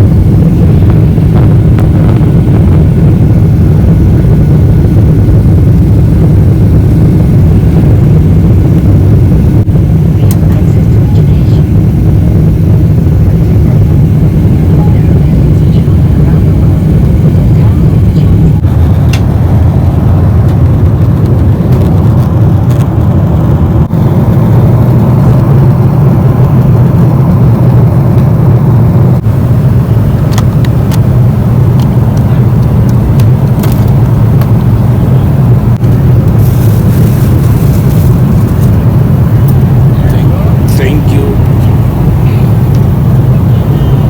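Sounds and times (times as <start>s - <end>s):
airliner cabin engine rumble: 0.0s - 44.0s.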